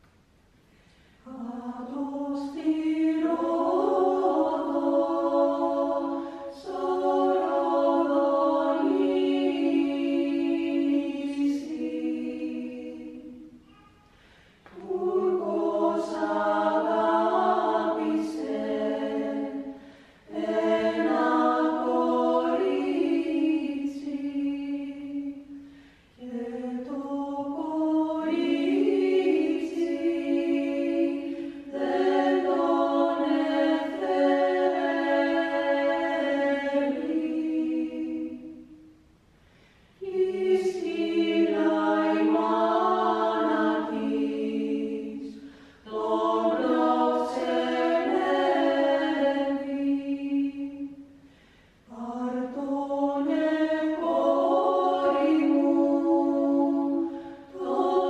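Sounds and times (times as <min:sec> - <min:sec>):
women's choir singing a cappella: 0:01.2 - 0:39.1, 0:39.9 - 0:58.0.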